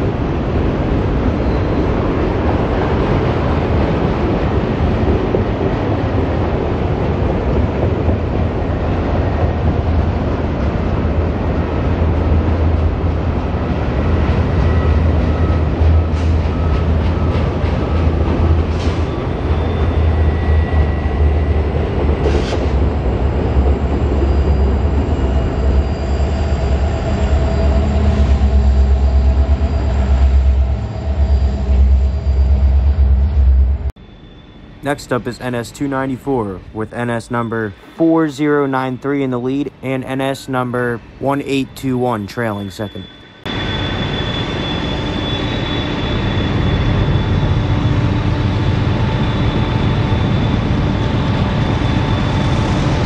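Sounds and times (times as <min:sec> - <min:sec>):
freight train rumbling on rails: 0:00.0 - 0:53.0.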